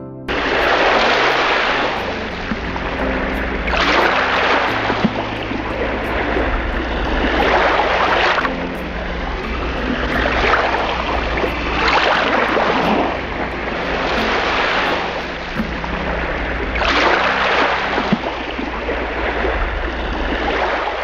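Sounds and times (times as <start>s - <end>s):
water splashing and sloshing: 0.3s - 21.0s.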